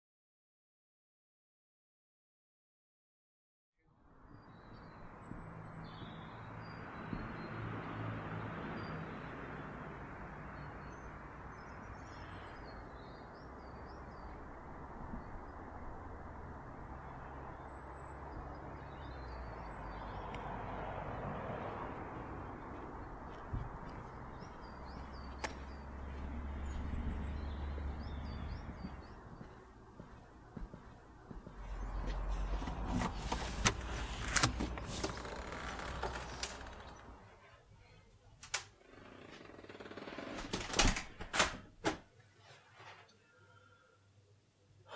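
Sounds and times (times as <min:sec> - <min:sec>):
distant traffic rumble: 0:04.4 - 0:41.4.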